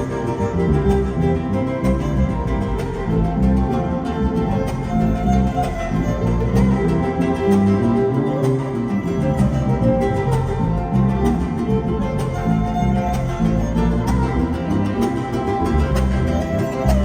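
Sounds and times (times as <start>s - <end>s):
guitars strumming: 0.0s - 17.0s
violin melody: 0.0s - 17.0s.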